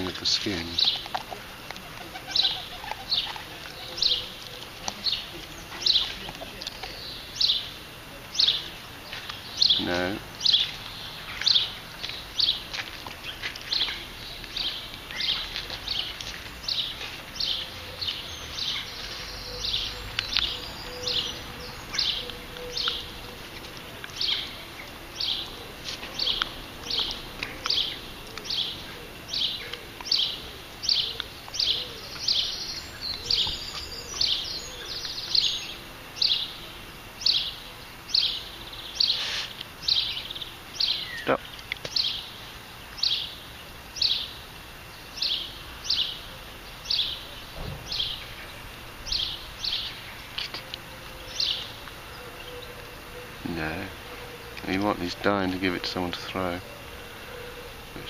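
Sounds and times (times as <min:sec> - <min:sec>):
bird chirping: 0:00.0 - 0:58.0
bird singing: 0:00.0 - 0:58.0.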